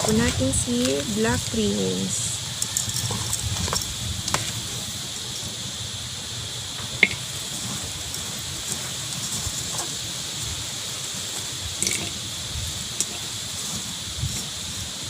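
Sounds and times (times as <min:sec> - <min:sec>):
background hiss: 0:00.0 - 0:15.0
low wind rumble: 0:00.0 - 0:15.0.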